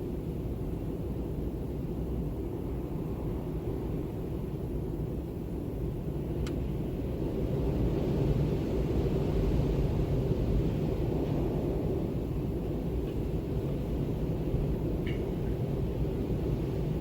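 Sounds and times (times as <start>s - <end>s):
wind rumble and gusts: 0.0s - 17.0s.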